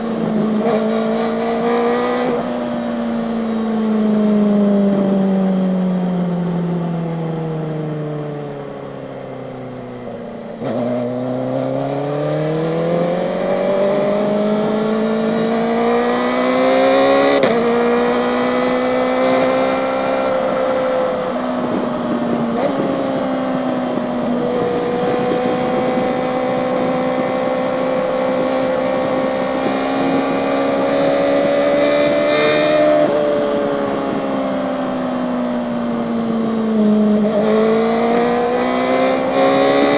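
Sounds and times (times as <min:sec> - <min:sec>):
motorcycle engine revving: 0:00.0 - 0:06.7, 0:10.4 - 0:39.9.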